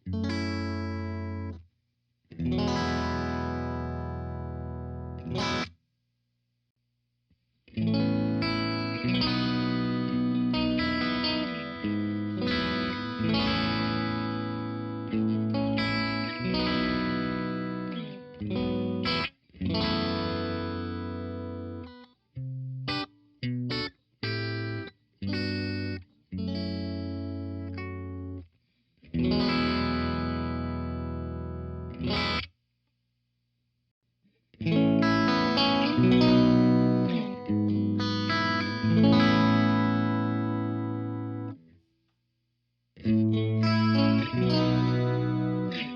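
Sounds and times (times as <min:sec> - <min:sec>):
overdriven electric guitar chords: 0:02.4 - 0:05.7, 0:07.8 - 0:28.4, 0:29.1 - 0:32.4, 0:34.6 - 0:41.6, 0:43.0 - 0:45.9.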